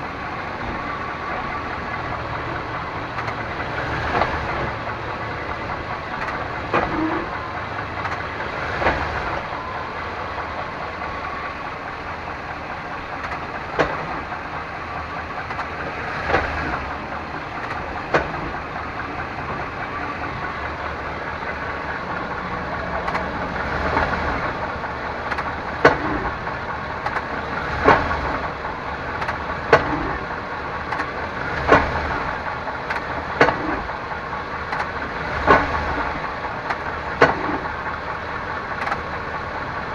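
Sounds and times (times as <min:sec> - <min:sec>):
transmission shift clunk: 0:00.0 - 0:39.6
engine idling: 0:00.0 - 0:39.9.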